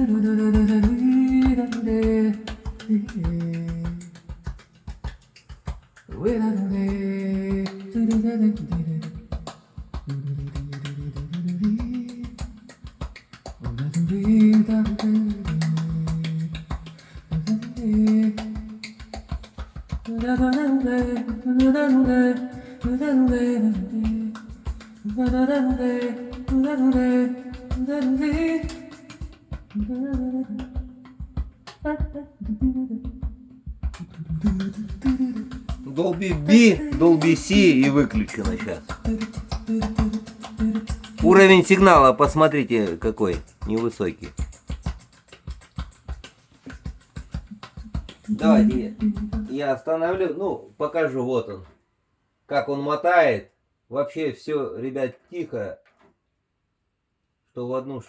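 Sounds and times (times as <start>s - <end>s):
song with sung melody and beat: 0.0s - 49.6s.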